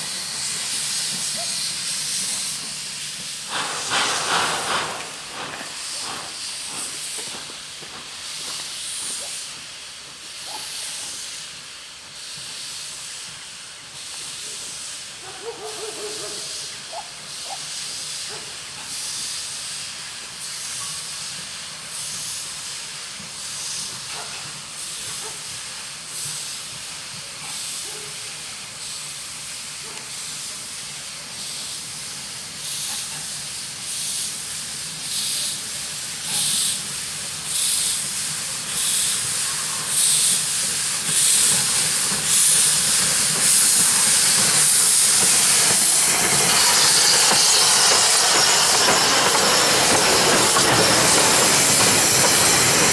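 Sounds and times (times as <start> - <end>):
steam hissing: 0.0 - 52.9
steam locomotive chuffing: 0.0 - 52.9.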